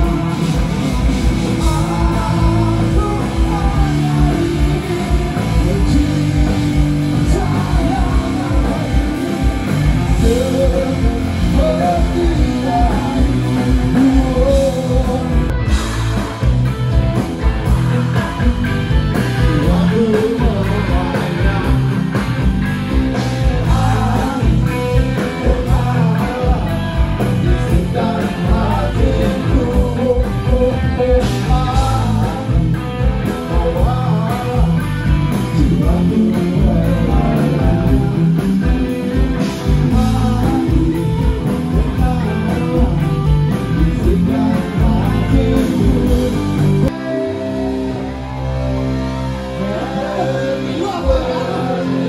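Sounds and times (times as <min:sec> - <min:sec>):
electric guitar: 0:00.0 - 0:52.0
lead singer: 0:00.0 - 0:52.0
rock band music: 0:00.0 - 0:52.0.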